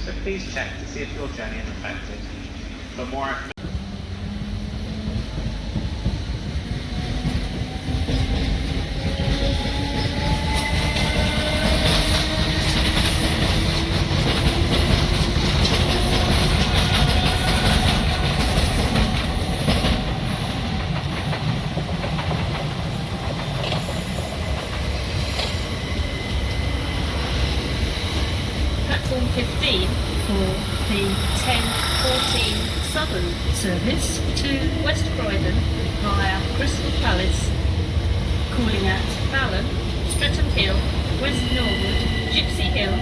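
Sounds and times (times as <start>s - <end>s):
train rumbling: 0.0s - 43.0s.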